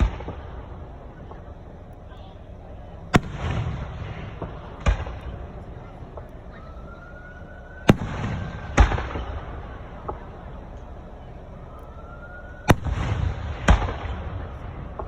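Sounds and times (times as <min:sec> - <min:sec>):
firework bangs with rumbling: 0:00.0 - 0:15.0
firework whistle: 0:00.0 - 0:15.0.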